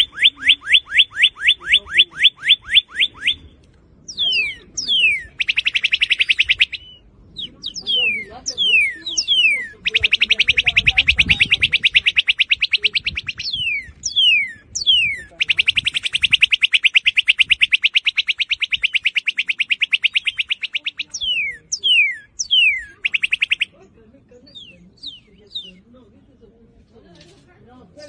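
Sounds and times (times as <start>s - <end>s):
bird whistles and trills: 0.0s - 23.8s, 24.5s - 25.9s.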